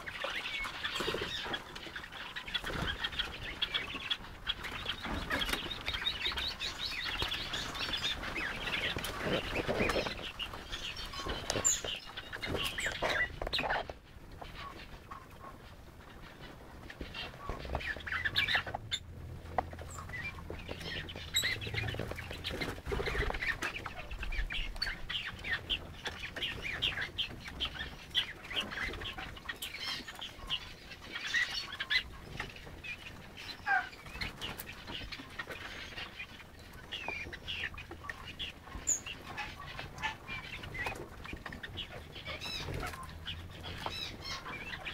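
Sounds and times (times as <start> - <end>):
birds chirping: 0.0 - 44.9
birds scratching in sand: 0.0 - 44.9.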